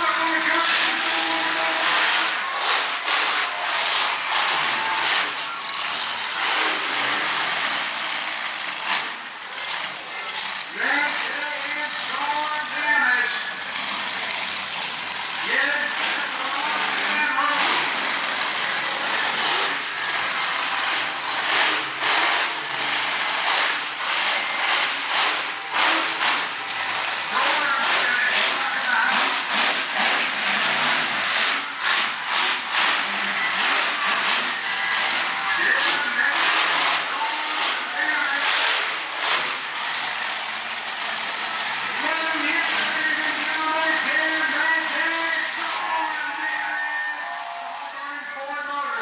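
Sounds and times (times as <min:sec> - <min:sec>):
monster truck engine revving: 0:00.0 - 0:49.0.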